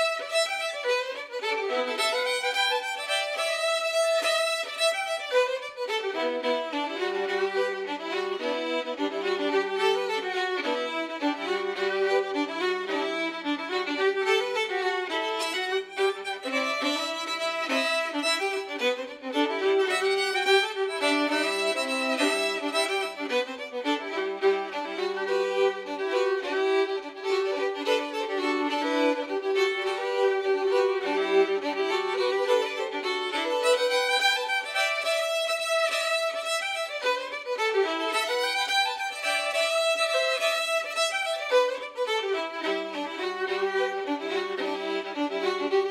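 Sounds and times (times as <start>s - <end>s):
fiddle playing a folk tune: 0.0s - 45.9s.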